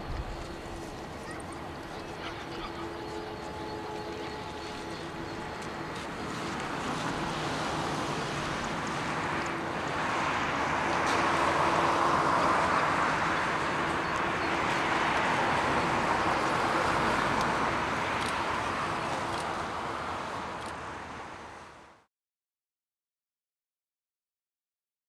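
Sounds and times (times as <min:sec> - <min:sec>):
jet engines roaring: 0:00.0 - 0:21.1.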